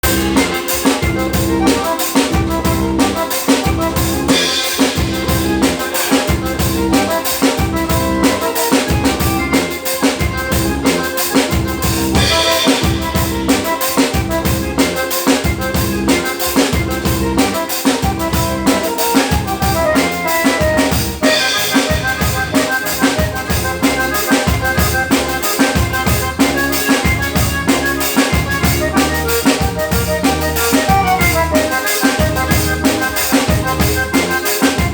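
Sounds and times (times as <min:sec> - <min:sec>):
kick and snare drum beat: 0:00.0 - 0:34.9
live band through loudspeakers: 0:00.0 - 0:34.9.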